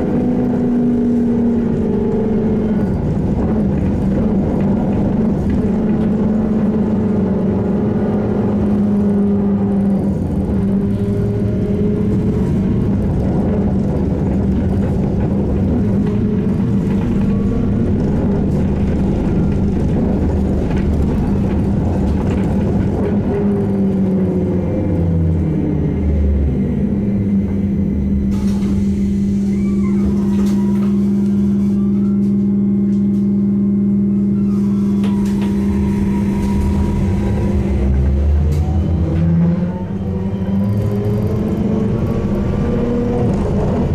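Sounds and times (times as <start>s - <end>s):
trolleybus running noise: 0.0s - 43.9s.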